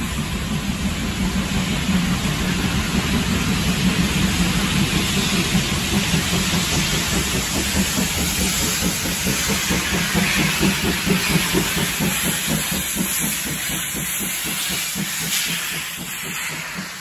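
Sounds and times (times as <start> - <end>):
steam locomotive working hard: 0.0 - 17.0.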